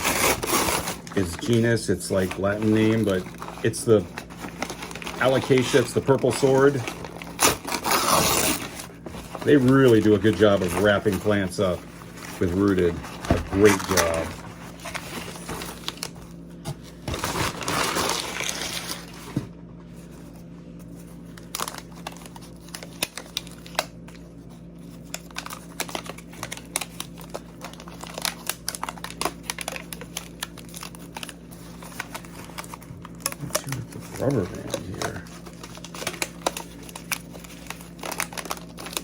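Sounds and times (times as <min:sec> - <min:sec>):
plastic packaging crinkling: 0:00.0 - 0:19.4, 0:20.9 - 0:39.0.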